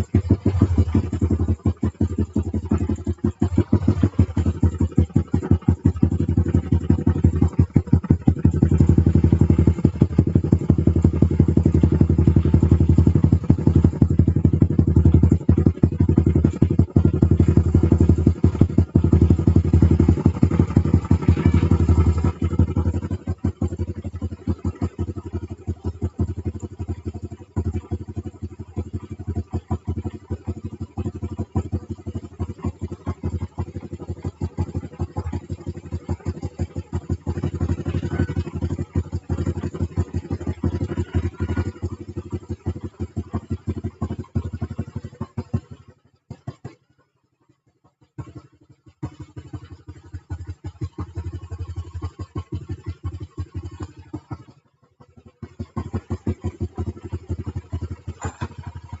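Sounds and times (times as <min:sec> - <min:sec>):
scooter engine revving: 0:00.0 - 0:45.9, 0:48.3 - 0:59.0.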